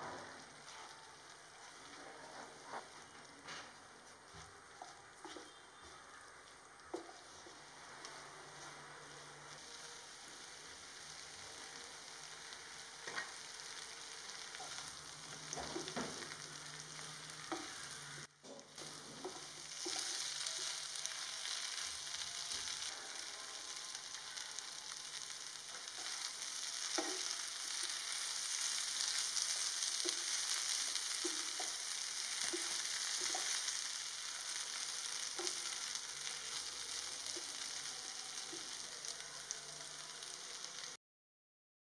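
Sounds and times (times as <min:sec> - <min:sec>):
food sizzling in a frying pan: 0:00.0 - 0:41.0.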